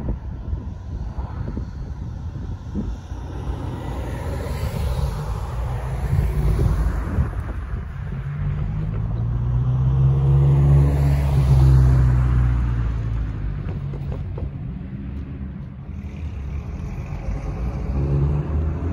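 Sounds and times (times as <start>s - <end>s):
cars humming: 0.0s - 18.9s
vehicle passing: 0.0s - 18.9s.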